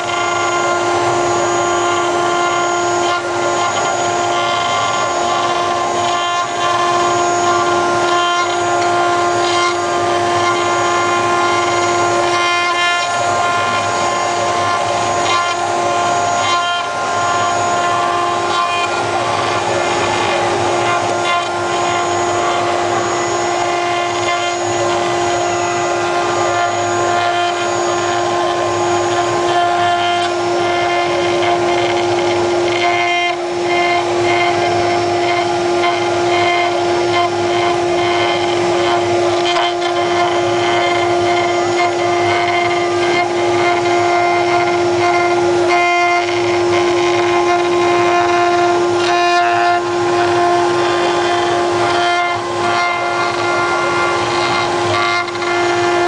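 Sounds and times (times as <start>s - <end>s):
cnc machine whining: 0.0s - 56.0s.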